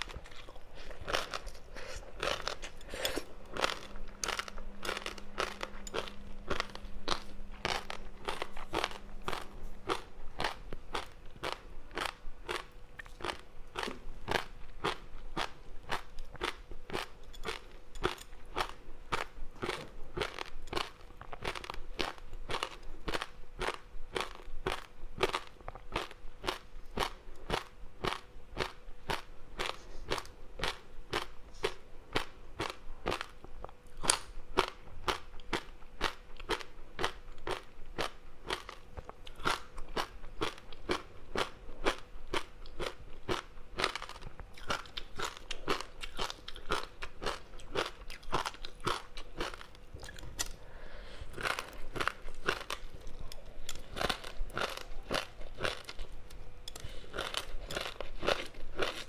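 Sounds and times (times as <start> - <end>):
chewing crispy snack: 0.0 - 50.6, 51.3 - 59.0.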